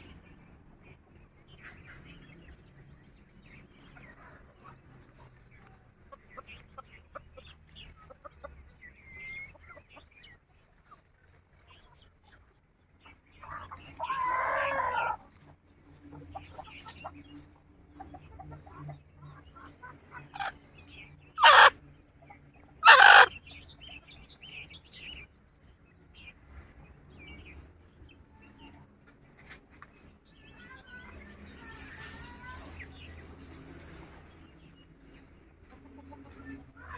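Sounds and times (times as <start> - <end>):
chickens clucking: 1.0 - 25.2, 26.3 - 36.9.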